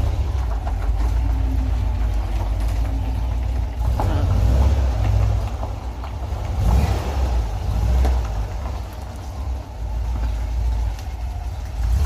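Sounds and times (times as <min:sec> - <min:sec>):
van engine accelerating: 0:00.0 - 0:12.0.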